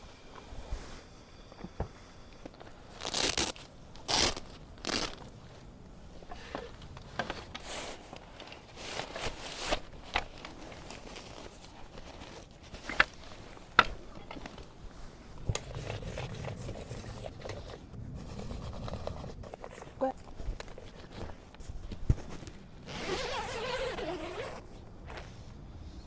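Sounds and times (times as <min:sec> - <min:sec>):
crinkling and rustling: 0:00.0 - 0:26.0.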